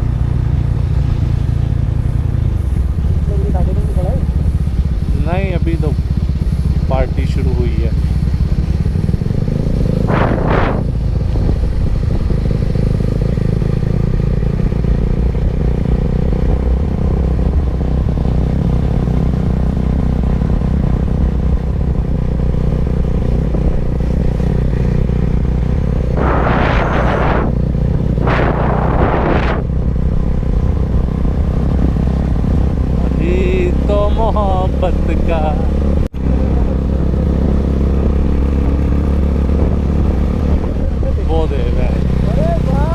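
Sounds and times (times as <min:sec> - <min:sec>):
motorcycle engine running: 0:00.0 - 0:42.9
wind noise: 0:00.0 - 0:42.9.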